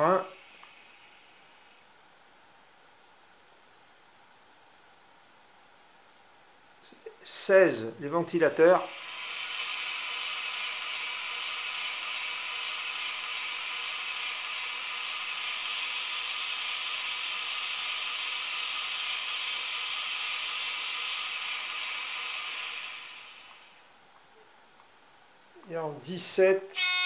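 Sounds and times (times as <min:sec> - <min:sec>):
cooling fan whirring hiss: 0:00.0 - 0:27.0.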